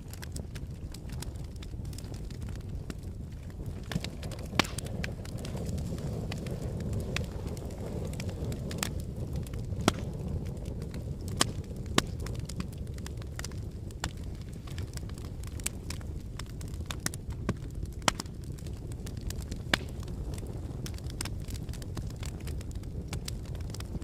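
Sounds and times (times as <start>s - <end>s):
sharp cracks and pops: 0.0s - 24.0s
volcanic low rumble: 0.0s - 24.0s.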